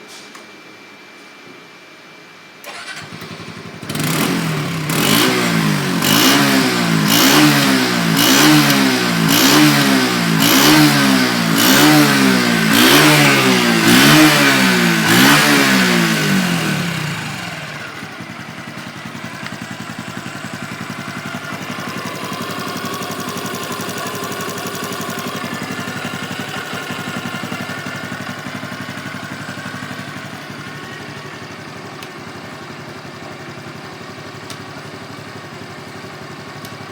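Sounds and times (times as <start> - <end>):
motorcycle engine revving and idling: 2.7 - 36.9.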